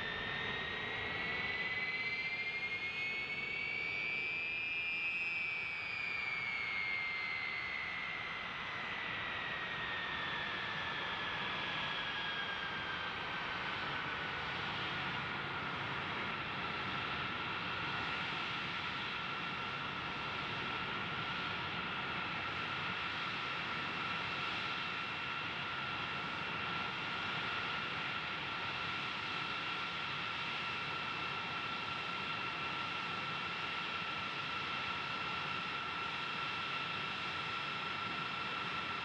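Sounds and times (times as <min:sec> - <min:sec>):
high turbine whine: 0:00.0 - 0:39.0.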